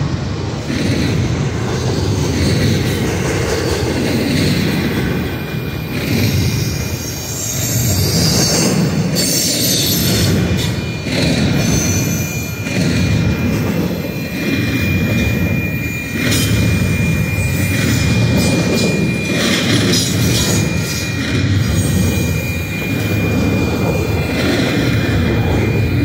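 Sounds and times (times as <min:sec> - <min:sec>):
train wheels rumbling on rail: 0:00.0 - 0:26.0
high wheel squeal: 0:00.6 - 0:26.0.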